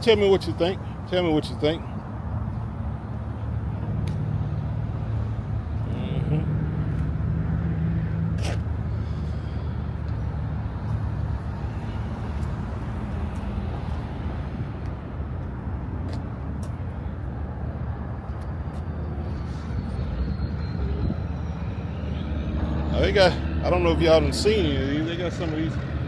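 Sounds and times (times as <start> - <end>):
motor vehicle rumble: 0.0 - 26.0.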